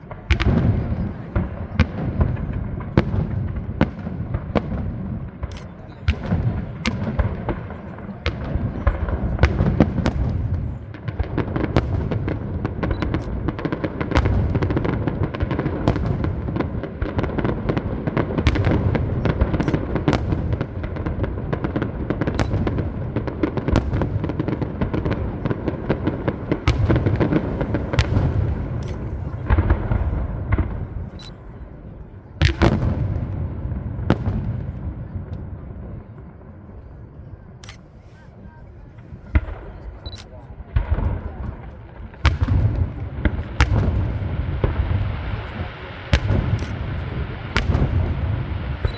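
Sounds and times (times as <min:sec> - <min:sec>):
low rumbling booms: 0:00.0 - 0:31.8, 0:40.7 - 0:48.9
fireworks bursts and crackling: 0:00.0 - 0:36.7, 0:37.6 - 0:48.9.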